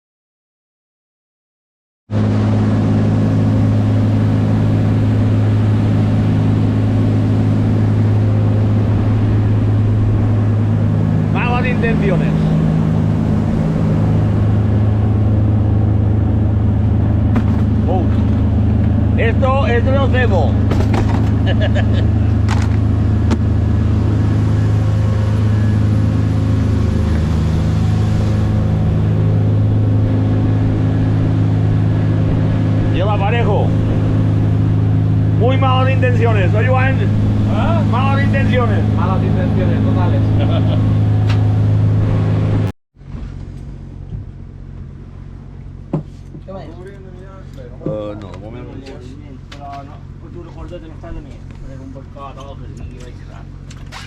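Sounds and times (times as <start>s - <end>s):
boat engine droning: 2.1s - 54.0s.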